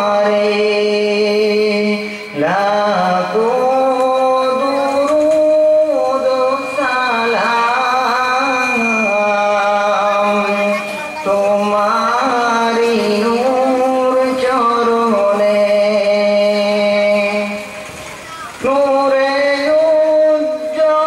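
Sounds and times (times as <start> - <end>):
man singing: 0.0 - 17.8, 18.6 - 21.0.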